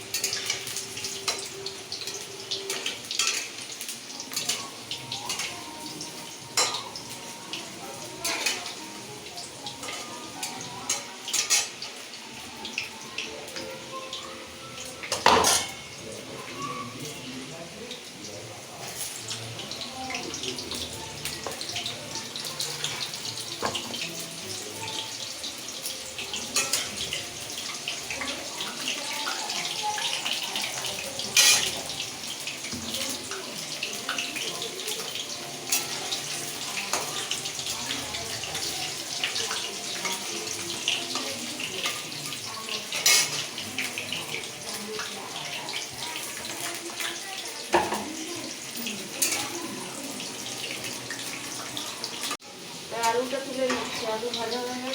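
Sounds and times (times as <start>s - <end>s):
potatoes sizzling in oil: 0.0s - 54.9s.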